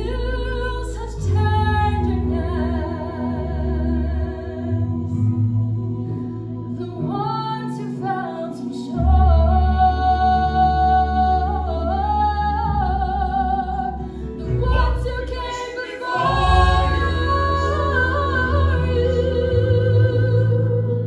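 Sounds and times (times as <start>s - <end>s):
woman singing with vibrato: 0.0s - 6.0s, 6.7s - 21.0s
low accompaniment: 0.0s - 21.0s.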